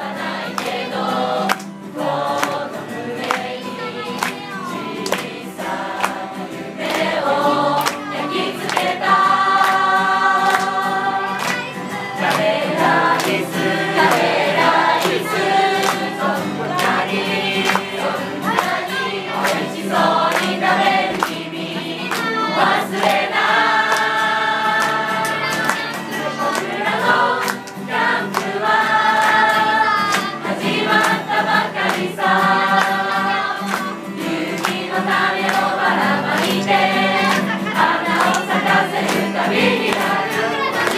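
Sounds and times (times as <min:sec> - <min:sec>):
group singing: 0:00.0 - 0:40.9
strummed acoustic guitar: 0:00.0 - 0:40.9.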